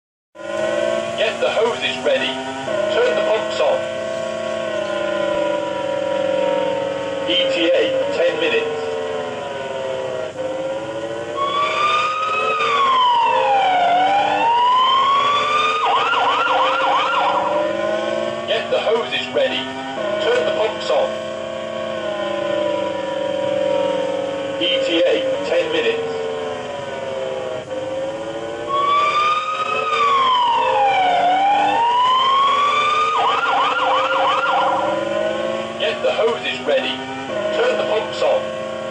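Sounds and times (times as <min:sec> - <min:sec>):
fire engine siren wailing: 0:00.4 - 0:38.9.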